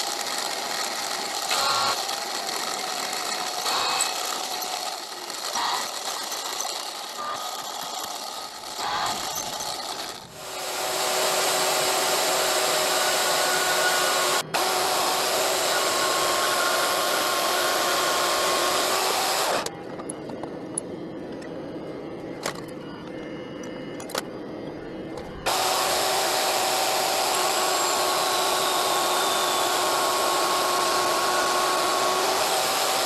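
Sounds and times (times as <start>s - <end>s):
drill bit cutting steel: 0.0s - 19.7s, 25.4s - 33.0s
power tool running: 0.0s - 19.8s, 25.4s - 33.0s
quieter machine running: 0.0s - 33.0s.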